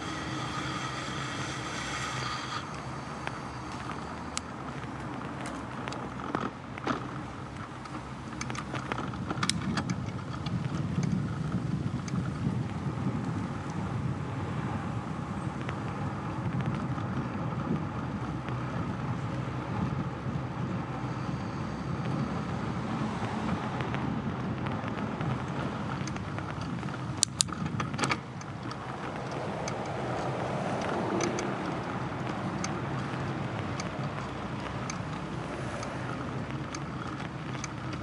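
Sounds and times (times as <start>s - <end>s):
bicycle clicks and rattles: 0.0s - 21.2s, 23.4s - 38.0s
bicycle tyre rumble: 0.0s - 38.0s
wind on microphone: 7.4s - 38.0s.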